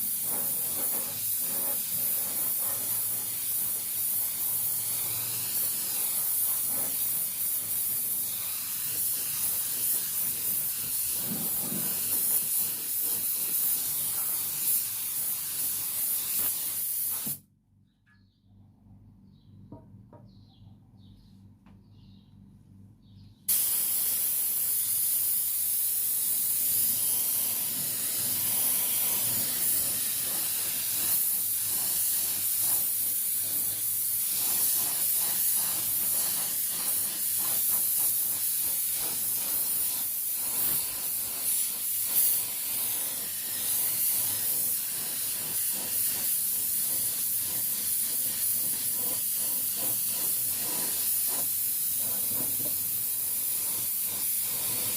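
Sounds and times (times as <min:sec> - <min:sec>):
loud spraying hiss: 0:00.0 - 0:17.4, 0:23.5 - 0:54.9.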